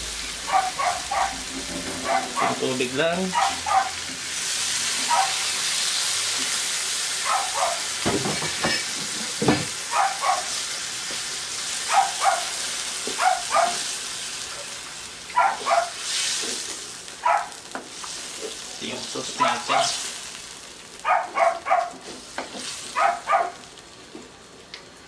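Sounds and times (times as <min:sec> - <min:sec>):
sauce sizzling in a wok: 0:00.0 - 0:25.0.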